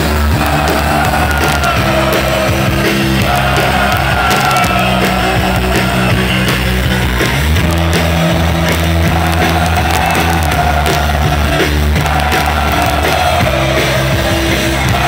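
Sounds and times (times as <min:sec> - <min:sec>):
bass guitar: 0:00.0 - 0:15.0
drums: 0:00.0 - 0:15.0
electric guitars: 0:00.0 - 0:15.0.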